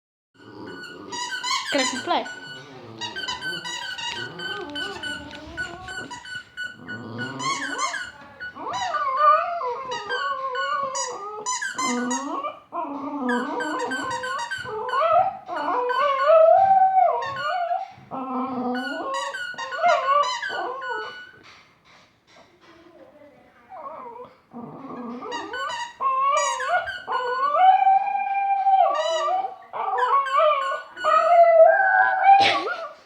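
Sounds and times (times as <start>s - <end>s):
squeaky toy squealing: 0.4s - 12.6s, 13.3s - 21.4s, 25.1s - 32.8s
dog howling: 0.6s - 6.2s, 6.8s - 21.3s, 23.8s - 33.0s.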